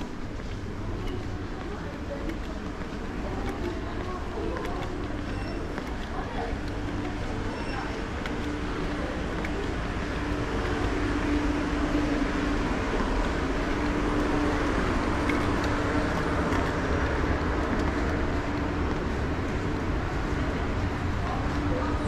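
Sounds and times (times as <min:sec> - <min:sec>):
station hum and hiss: 0:00.0 - 0:22.0.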